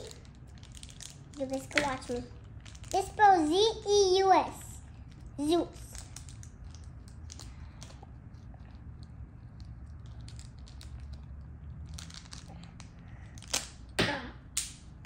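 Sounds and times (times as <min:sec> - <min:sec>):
plastic bag crinkling: 0:00.0 - 0:04.0, 0:04.9 - 0:08.8, 0:09.5 - 0:13.7.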